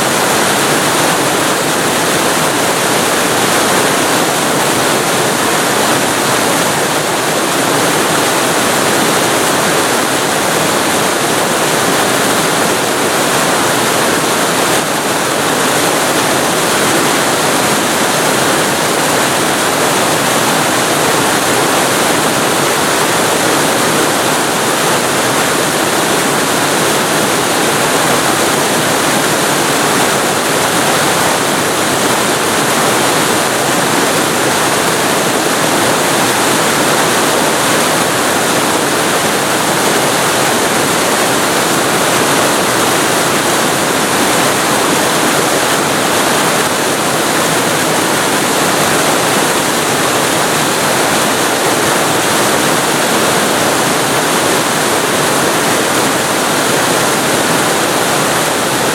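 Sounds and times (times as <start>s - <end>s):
waterfall roaring: 0.0s - 58.9s.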